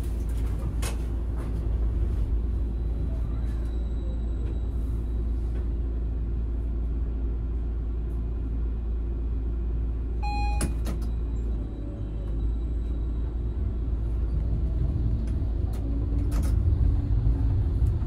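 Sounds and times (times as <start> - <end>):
tram humming and rumbling: 0.0 - 18.0.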